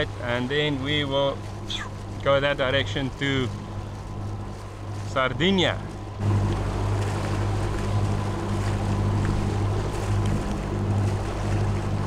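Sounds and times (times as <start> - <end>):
diesel engine humming: 0.0 - 12.0
water noise: 0.0 - 12.0.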